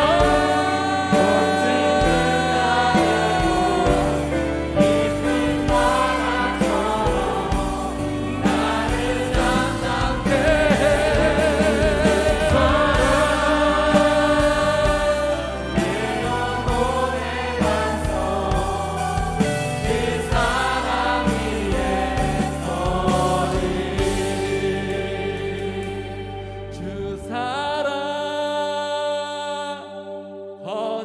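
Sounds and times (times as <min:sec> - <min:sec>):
instrumental accompaniment: 0:00.0 - 0:28.0
group singing into microphones: 0:00.0 - 0:31.0.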